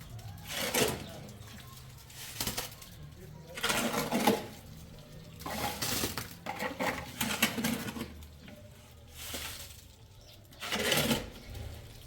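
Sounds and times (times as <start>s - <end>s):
clinks and knocks of hard objects: 0.0s - 12.0s.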